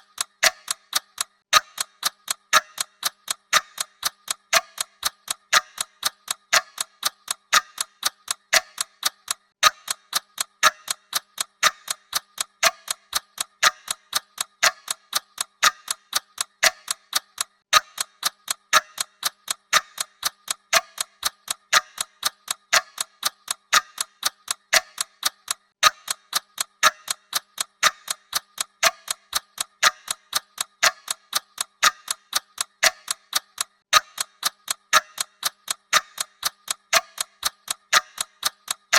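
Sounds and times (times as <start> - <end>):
clock ticking: 0.0 - 38.9.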